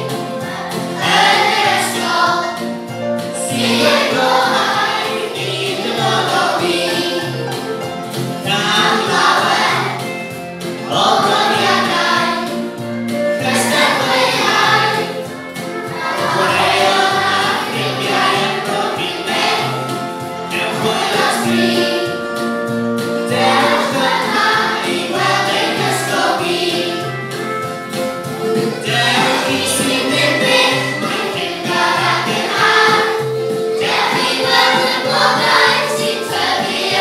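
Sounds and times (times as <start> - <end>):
children singing together: 0.0 - 37.0
instrumental accompaniment: 0.0 - 37.0.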